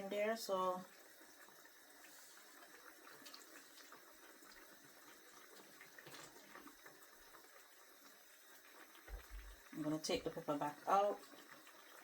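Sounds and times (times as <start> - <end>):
pot simmering: 0.0 - 12.0.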